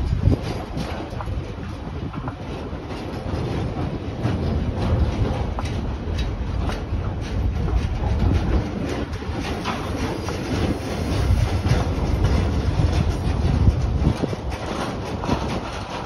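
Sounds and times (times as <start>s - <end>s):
freight train rumbling past: 0.0s - 16.0s
wheels clicking over rail joints: 0.0s - 16.0s.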